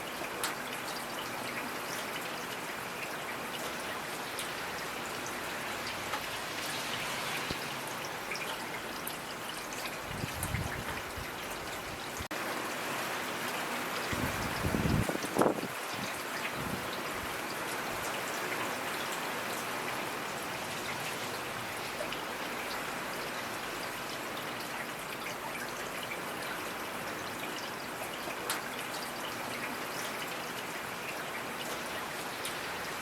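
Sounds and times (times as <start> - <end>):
rain patter: 0.0 - 33.0.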